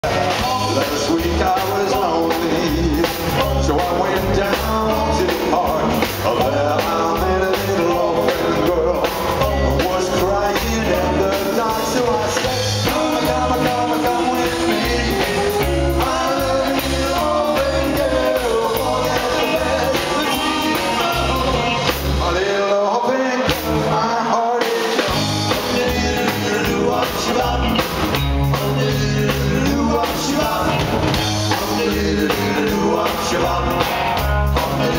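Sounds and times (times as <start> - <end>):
upright double bass: 0.0 - 22.6, 25.1 - 34.9
man singing: 0.0 - 34.9
rock and roll band playing: 0.0 - 34.9.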